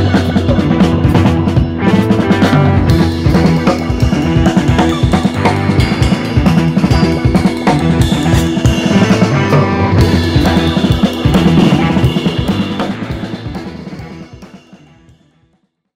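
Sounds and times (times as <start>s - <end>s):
music with drum kit: 0.0s - 15.8s.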